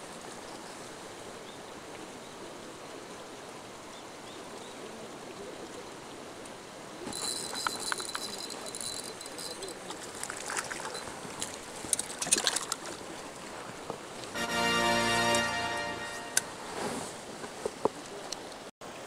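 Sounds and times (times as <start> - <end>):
running water: 0.0 - 16.7.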